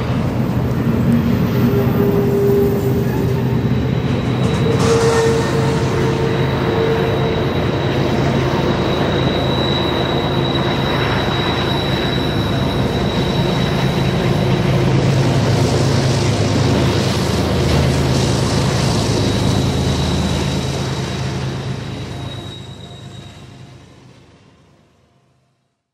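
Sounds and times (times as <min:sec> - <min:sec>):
high whine: 0:00.0 - 0:24.6
freight train rumble: 0:00.0 - 0:25.4.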